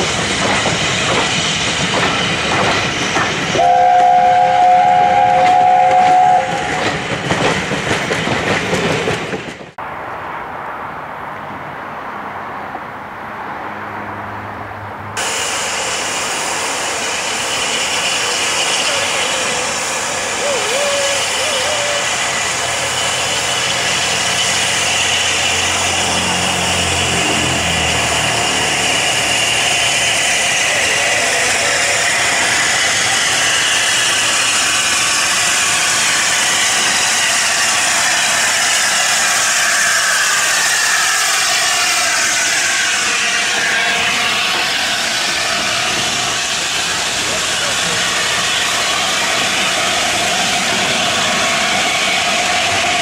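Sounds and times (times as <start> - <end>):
loud steam hiss: 0.0 - 7.2, 15.2 - 53.0
steam locomotives passing: 0.0 - 53.0.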